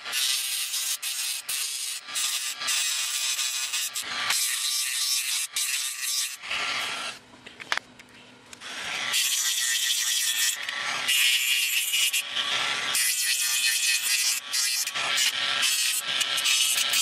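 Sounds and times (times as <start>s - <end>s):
rotary tool grinding circuit board: 0.0s - 7.2s, 8.6s - 17.0s.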